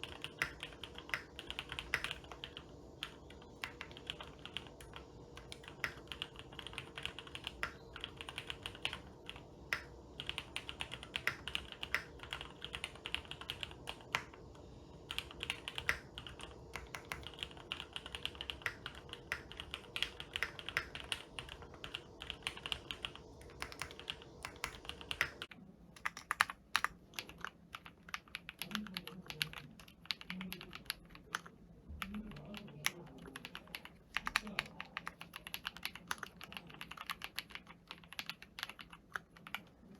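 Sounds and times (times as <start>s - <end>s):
keyboard keystroke clacks: 0.0s - 14.4s, 15.1s - 39.6s
background hum: 0.0s - 39.9s.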